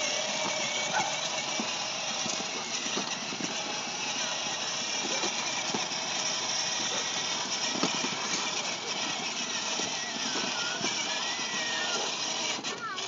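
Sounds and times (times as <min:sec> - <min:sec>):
plastic toy wheels rolling on concrete: 0:00.0 - 0:13.0.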